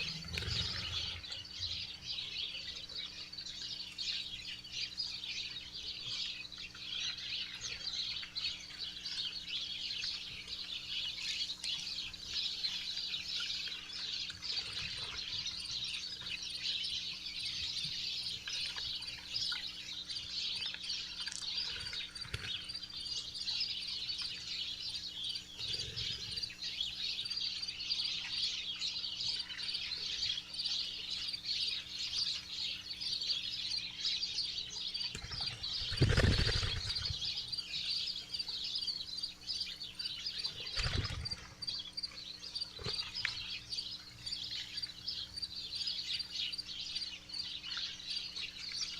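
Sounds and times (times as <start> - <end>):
faint electrical hum: 0.0 - 48.9
small birds chirping: 0.0 - 48.9.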